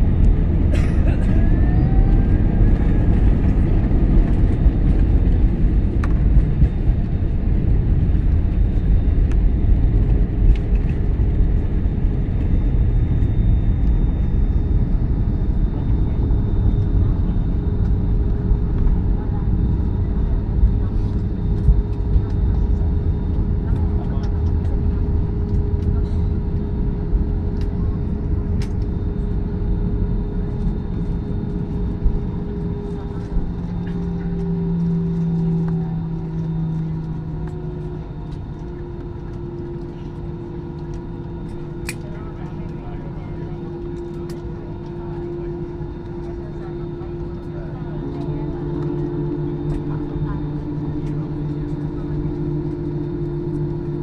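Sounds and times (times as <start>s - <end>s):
airliner engine rumble: 0.0s - 54.0s
constant hum: 0.0s - 54.0s.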